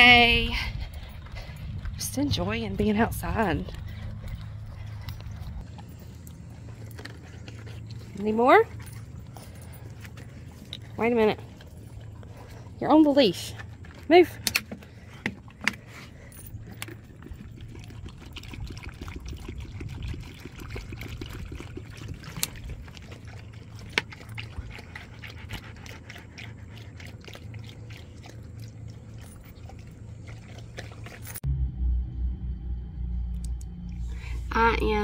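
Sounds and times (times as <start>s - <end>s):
dogs lapping water: 0.0s - 31.5s.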